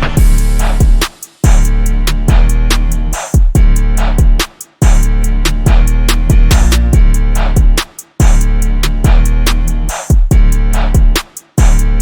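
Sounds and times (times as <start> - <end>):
music with drum beat: 0.0 - 12.0.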